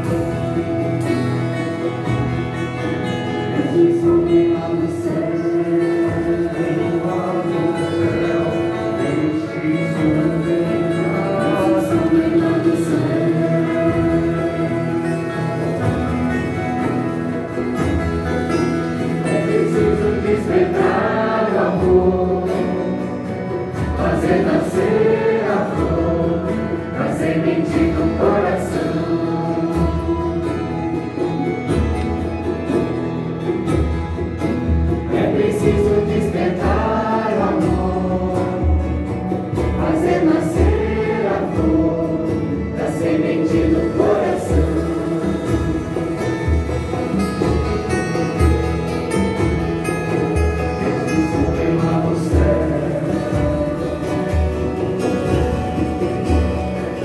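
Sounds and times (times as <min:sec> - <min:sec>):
group singing a hymn: 0:00.0 - 0:31.6, 0:34.8 - 0:57.0
guitar accompaniment: 0:00.0 - 0:57.0.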